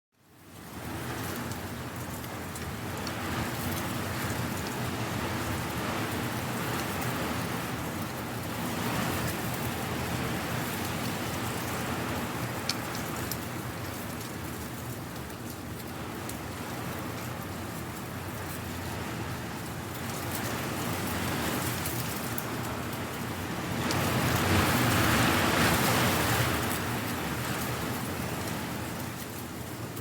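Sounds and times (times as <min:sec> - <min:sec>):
wind rustling dry leaves: 0:00.2 - 0:30.0.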